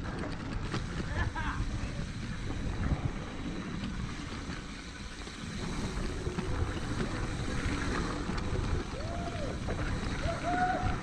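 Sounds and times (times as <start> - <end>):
bike rattling over bumps: 0.0 - 11.0
tyres rumbling on dirt: 0.0 - 11.0
wind buffeting microphone: 0.0 - 11.0.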